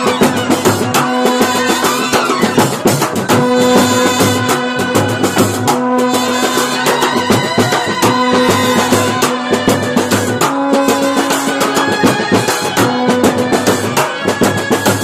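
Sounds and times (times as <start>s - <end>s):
brass band horns: 0.0s - 15.0s
fast drum and cymbal beats: 0.0s - 15.0s.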